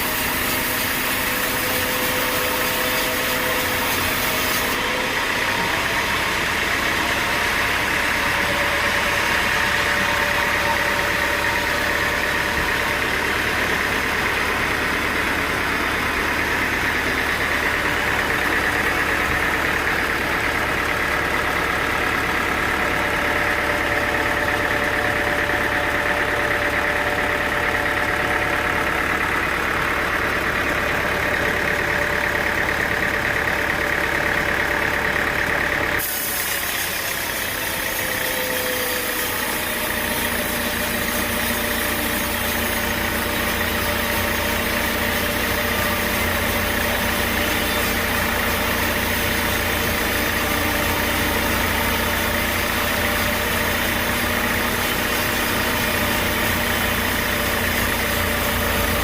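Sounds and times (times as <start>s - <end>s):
machinery whine: 0.0s - 59.0s
sawmill machinery drone: 0.0s - 59.0s.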